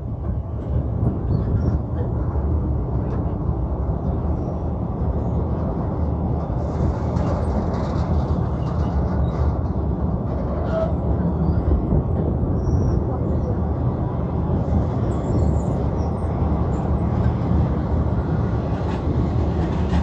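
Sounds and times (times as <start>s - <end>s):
train wheels rumbling on bridge: 0.0s - 20.0s.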